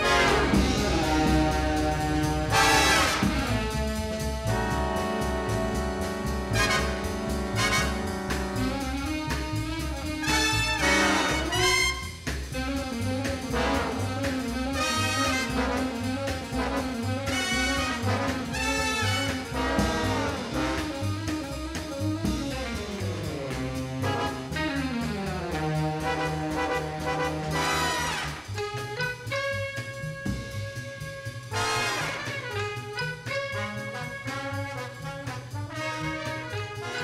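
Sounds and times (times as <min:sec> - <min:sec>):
jazzy brass tune: 0:00.0 - 0:37.0
steady bass beat: 0:00.0 - 0:37.0.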